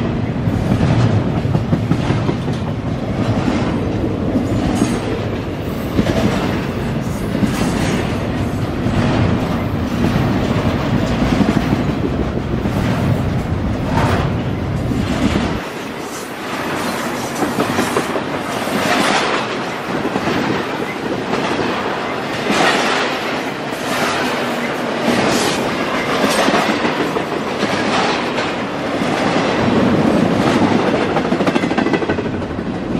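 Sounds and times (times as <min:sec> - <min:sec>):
freight train rumbling past: 0:00.0 - 0:32.9
train wheels clacking: 0:00.6 - 0:32.8.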